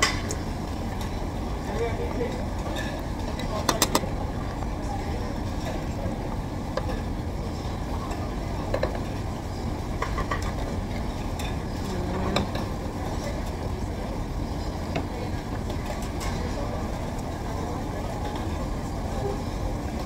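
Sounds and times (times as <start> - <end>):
restaurant background hum: 0.0 - 20.0.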